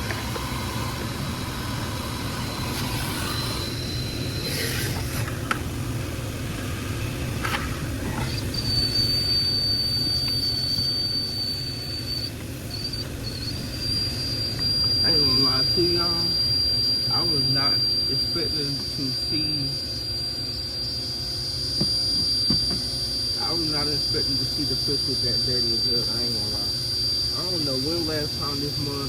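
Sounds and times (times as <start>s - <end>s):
vacuum running: 0.0s - 29.0s.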